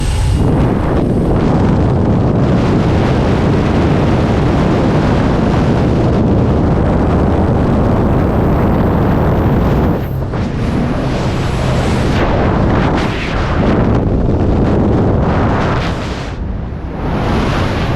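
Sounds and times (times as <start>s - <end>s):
wind rushing over microphone: 0.0s - 17.9s.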